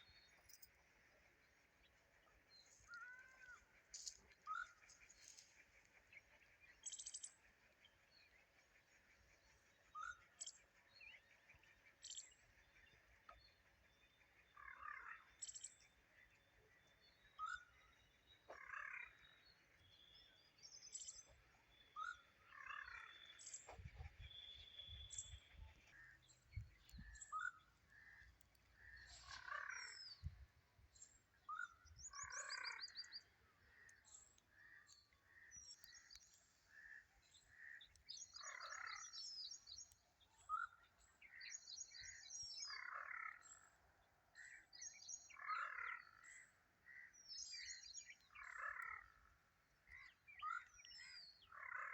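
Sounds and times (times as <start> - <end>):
birds chirping and trilling: 0.0 - 51.9.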